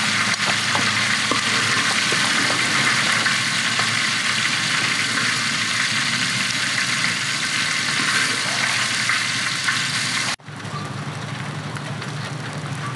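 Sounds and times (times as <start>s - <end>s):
food sizzling in hot oil: 0.0s - 10.4s.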